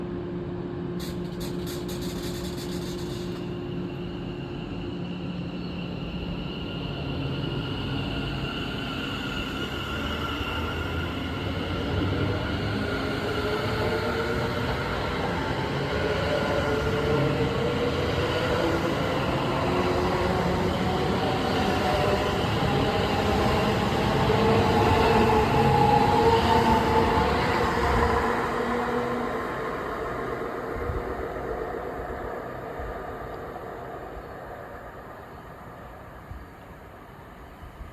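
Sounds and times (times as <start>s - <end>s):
train wheels rumbling on rails: 0.9s - 36.5s.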